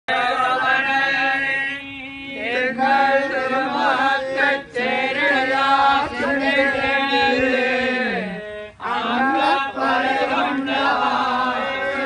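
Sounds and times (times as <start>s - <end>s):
men chanting in unison: 0.1s - 12.0s.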